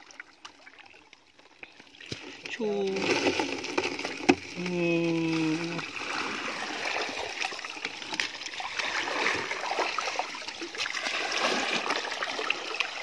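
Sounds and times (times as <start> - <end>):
muddy water sloshing: 0.0 - 13.0
small splashes: 0.0 - 13.0.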